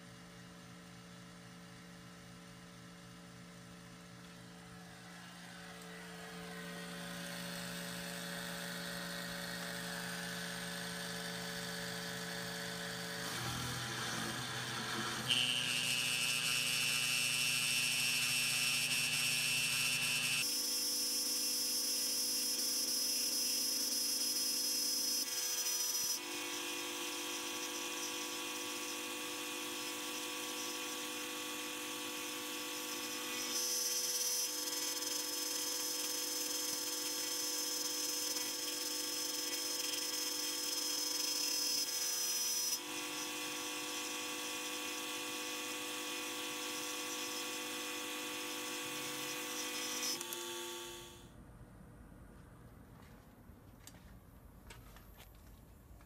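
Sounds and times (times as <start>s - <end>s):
router motor whining: 5.0s - 51.3s.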